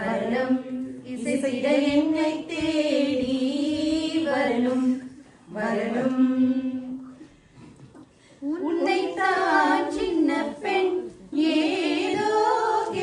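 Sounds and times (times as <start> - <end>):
women singing unaccompanied: 0.0 - 7.2, 8.4 - 13.0.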